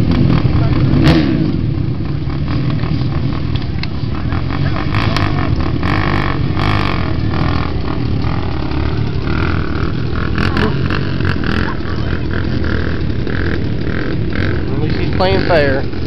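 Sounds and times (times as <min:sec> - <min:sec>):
quad engines accelerating: 0:00.0 - 0:16.0
crowd voices: 0:00.2 - 0:01.1, 0:02.9 - 0:16.0.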